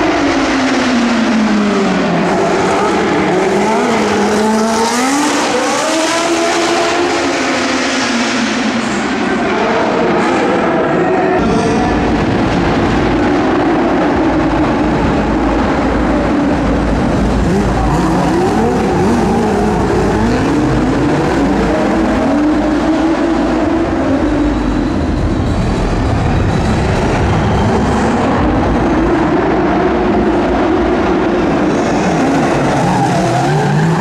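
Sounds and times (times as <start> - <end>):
race car engines running: 0.0 - 34.0.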